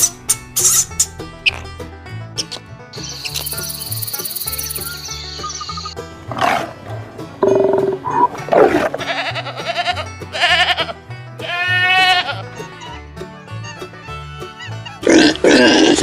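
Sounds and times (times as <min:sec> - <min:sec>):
background music with bass line: 0:00.0 - 0:16.0.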